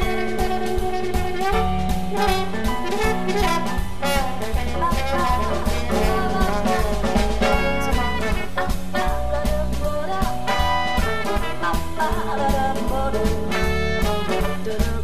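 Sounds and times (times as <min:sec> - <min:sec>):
swing instrumental music: 0:00.0 - 0:15.0.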